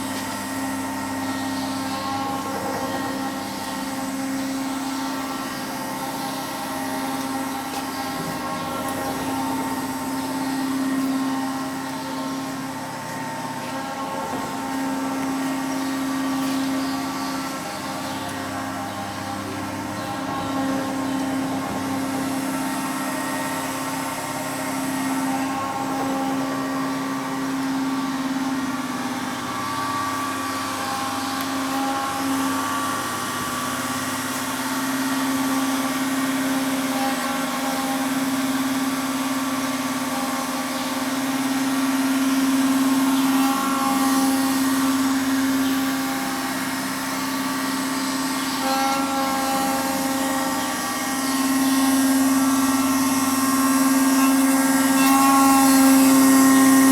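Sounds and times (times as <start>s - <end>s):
grinder machine hum: 0.0s - 56.9s.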